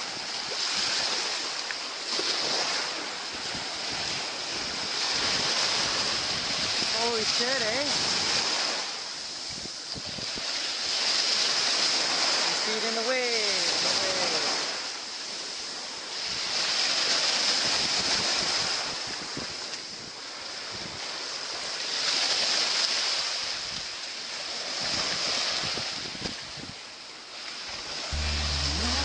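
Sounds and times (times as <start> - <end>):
ocean surf washing onto beach: 0.0 - 29.0.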